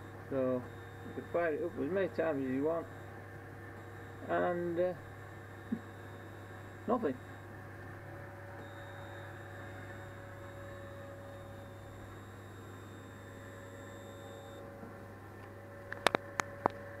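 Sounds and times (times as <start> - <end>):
faint high whine: 0.0 - 17.0
laser engraver electrical hum: 0.0 - 17.0.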